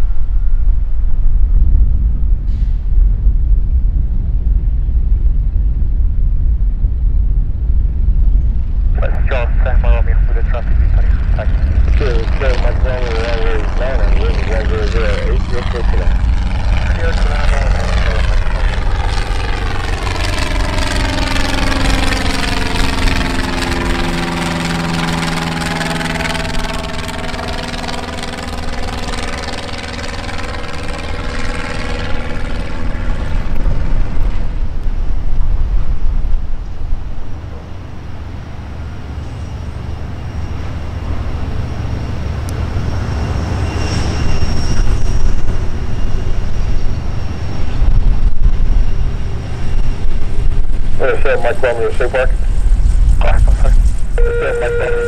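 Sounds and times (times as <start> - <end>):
light aircraft engine rumble: 0.0 - 55.0
propeller plane flying overhead: 0.0 - 55.0.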